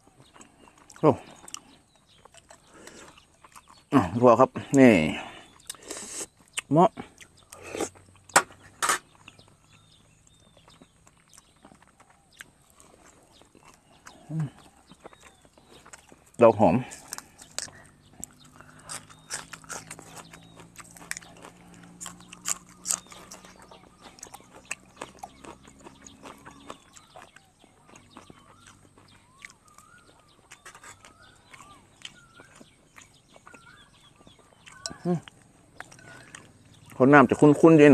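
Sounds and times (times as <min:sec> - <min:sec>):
quiet chewing with lip smacks: 0:00.0 - 0:03.9, 0:05.4 - 0:08.4, 0:09.1 - 0:37.7
faint bird calls: 0:05.0 - 0:37.9.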